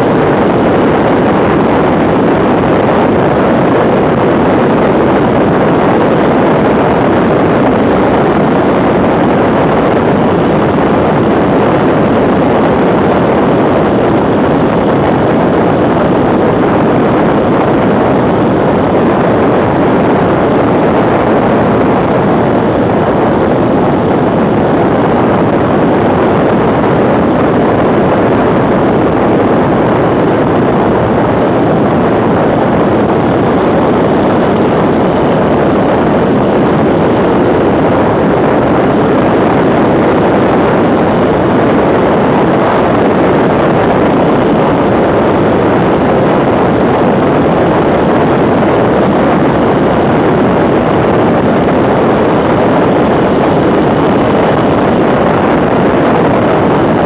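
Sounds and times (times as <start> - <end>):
wind rushing: 0.0 - 57.0.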